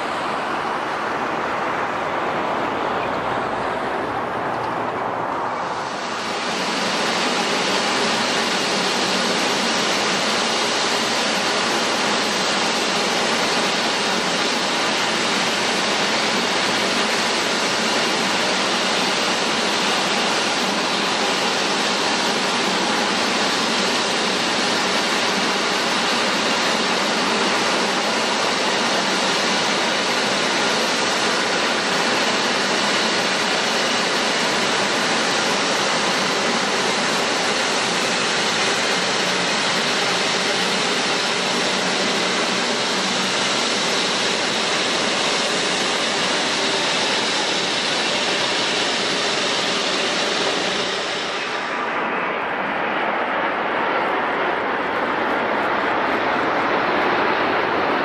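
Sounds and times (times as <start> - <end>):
jet engines rushing at taxi: 0.0 - 58.0.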